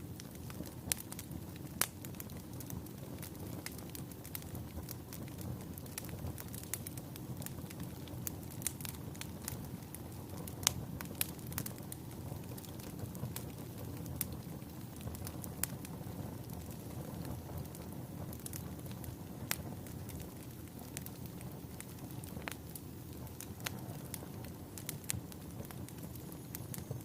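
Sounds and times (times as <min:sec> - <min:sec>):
logs crackling and popping: 0:00.0 - 0:27.0
low rumble of flames: 0:00.0 - 0:27.0.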